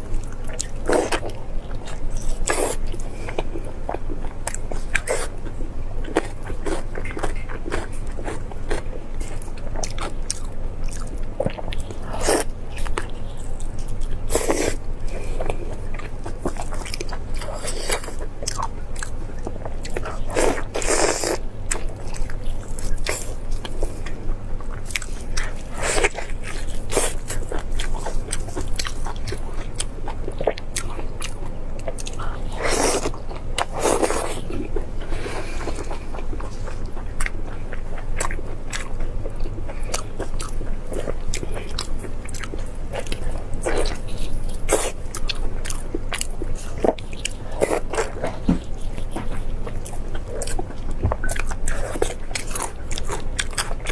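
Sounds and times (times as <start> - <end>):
crunchy chewing: 0.0 - 53.9.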